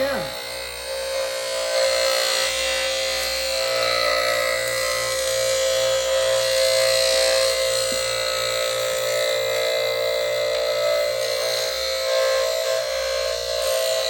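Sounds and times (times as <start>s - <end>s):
blade sharpener motor humming: 0.0s - 14.0s
grinding wheel hissing: 0.0s - 14.0s.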